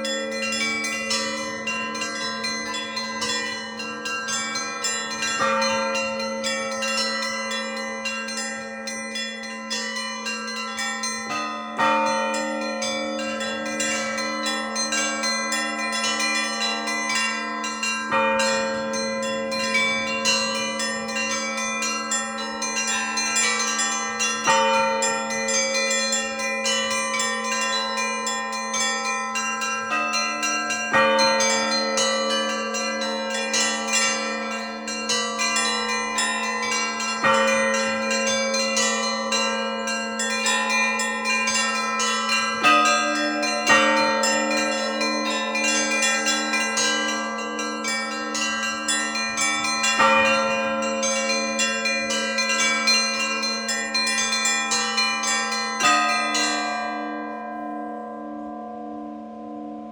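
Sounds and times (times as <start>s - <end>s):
small bells chiming quickly: 0.0s - 58.0s
heavy bass bell: 0.0s - 59.9s.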